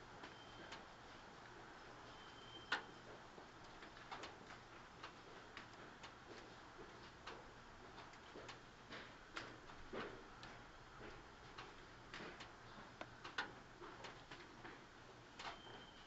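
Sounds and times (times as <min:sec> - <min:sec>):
low steady train hum: 0:00.0 - 0:14.0
irregular clicks and ticks: 0:02.6 - 0:15.8.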